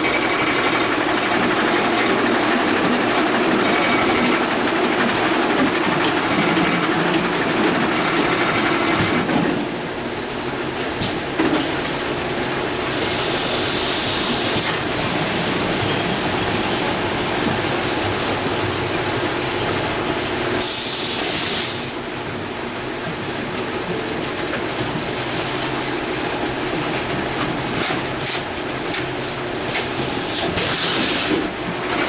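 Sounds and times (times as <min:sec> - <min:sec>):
filling machine clatter and hum: 0:00.0 - 0:32.0.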